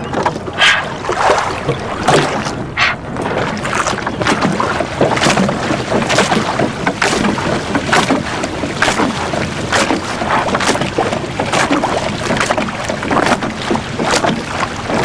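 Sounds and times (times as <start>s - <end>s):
water slapping against boat hull: 0.0s - 15.0s.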